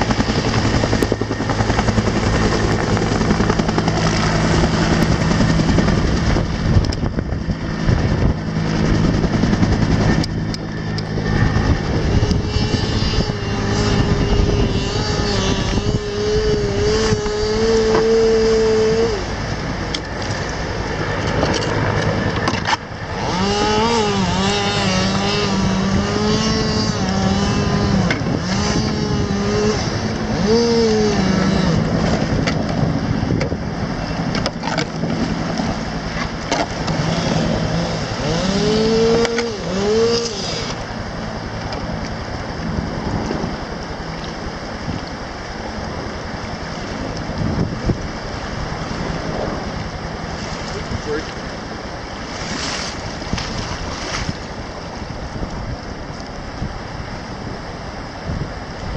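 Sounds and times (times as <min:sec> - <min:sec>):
helicopter engine and rotor: 0:00.0 - 0:58.9.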